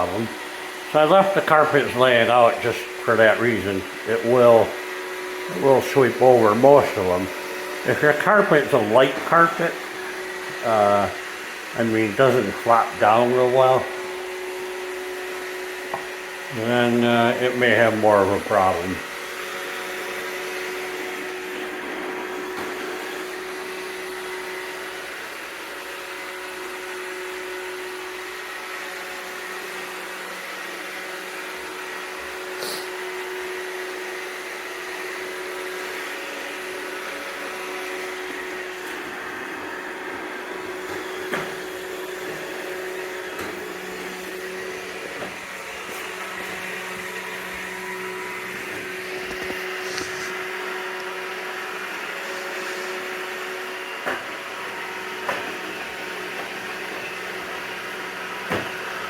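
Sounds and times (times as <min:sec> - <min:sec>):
robot vacuum motor hum: 0:00.0 - 0:59.0.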